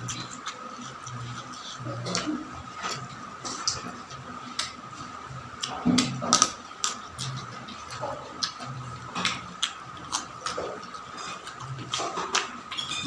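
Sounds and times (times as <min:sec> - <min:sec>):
chewing and crunching: 0:00.0 - 0:13.0.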